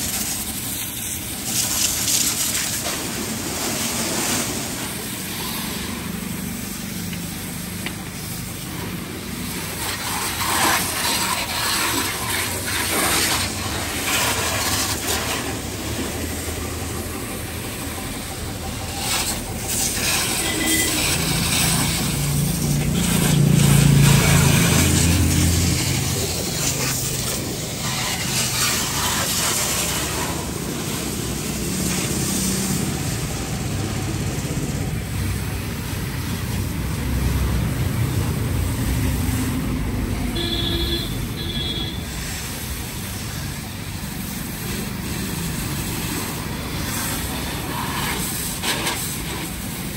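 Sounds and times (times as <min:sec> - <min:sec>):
splashing rushing water: 0:00.0 - 0:49.9.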